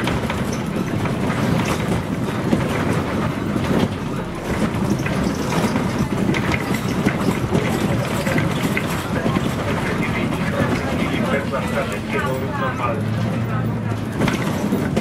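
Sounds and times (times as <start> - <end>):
bus body rattling: 0.0 - 15.0
bus engine and road rumble: 0.0 - 15.0.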